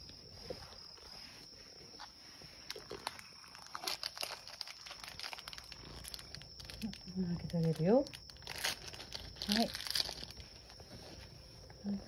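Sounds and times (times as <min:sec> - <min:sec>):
crinkling and light clicks: 0:01.8 - 0:12.0.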